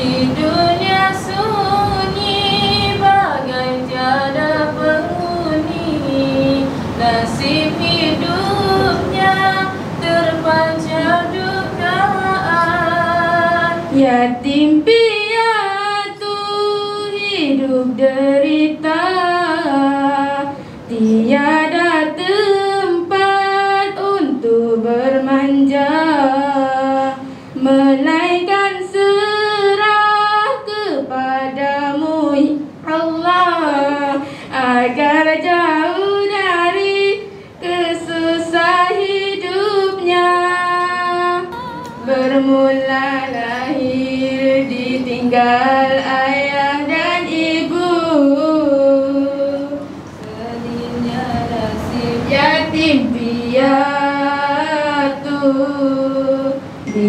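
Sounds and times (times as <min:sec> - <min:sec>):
girl singing into a microphone: 0:00.0 - 0:57.0.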